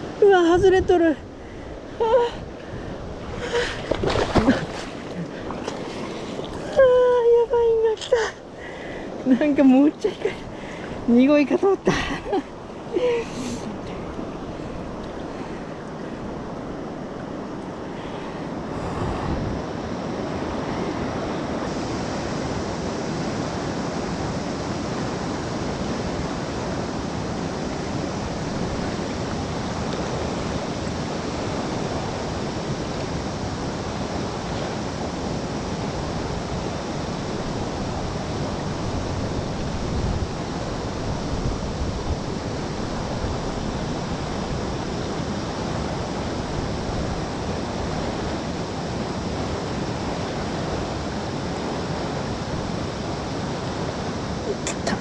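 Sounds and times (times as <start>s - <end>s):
river current rushing: 0.0s - 55.0s.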